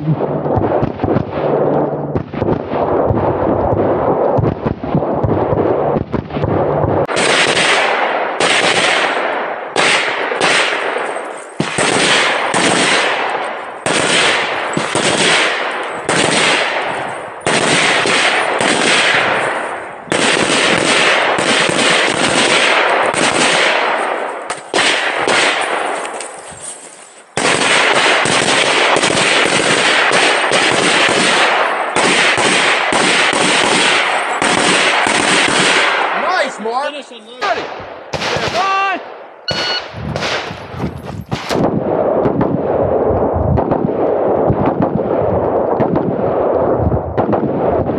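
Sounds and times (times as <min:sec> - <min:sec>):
rifle firing rapid shots: 0:00.2 - 0:26.3, 0:27.3 - 0:36.3, 0:37.5 - 0:47.9.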